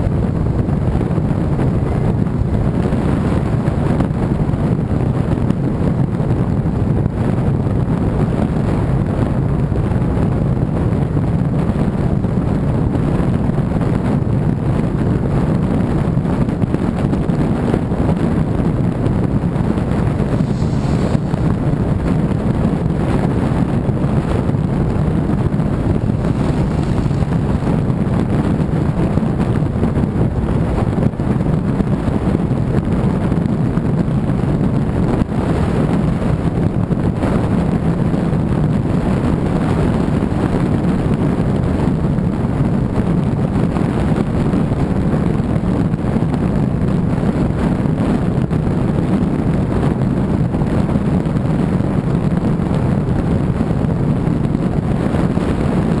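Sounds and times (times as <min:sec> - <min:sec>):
car interior road noise: 0:00.0 - 0:56.0.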